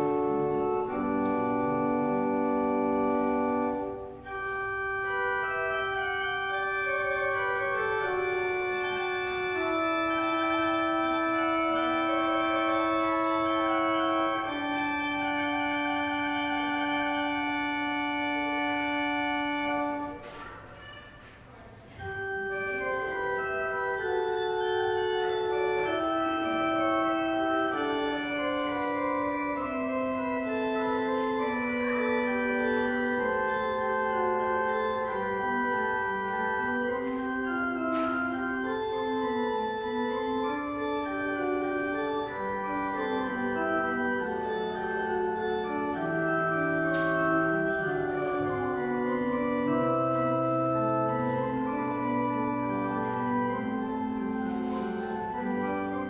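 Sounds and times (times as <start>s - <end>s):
church organ playing chords: 0.0s - 20.4s, 21.6s - 56.0s.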